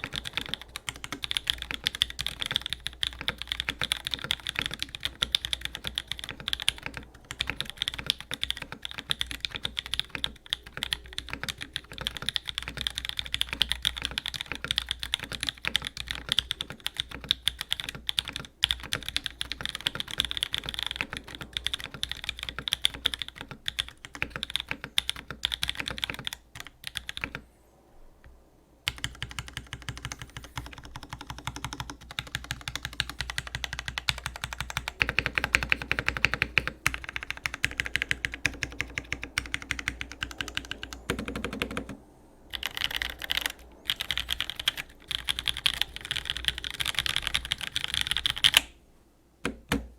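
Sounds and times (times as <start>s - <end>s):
mechanical keyboard typing: 0.0s - 27.4s, 28.9s - 48.7s, 49.4s - 49.9s.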